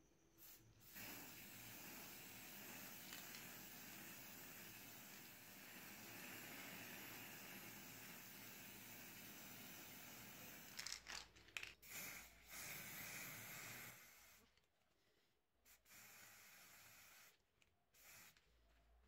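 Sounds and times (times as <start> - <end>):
spray paint can hissing: 0.4 - 14.6, 15.6 - 18.6.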